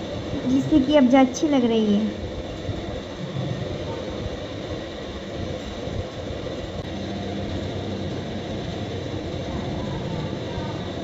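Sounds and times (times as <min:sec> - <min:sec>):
faint hum: 0:00.0 - 0:11.0
low rumbling background noise: 0:00.0 - 0:11.0.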